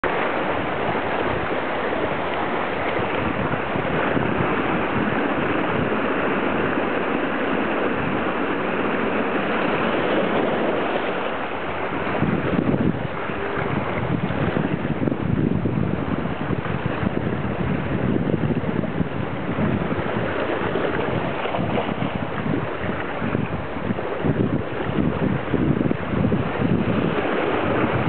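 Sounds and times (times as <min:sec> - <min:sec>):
surf splashing on shore: 0:00.0 - 0:28.0.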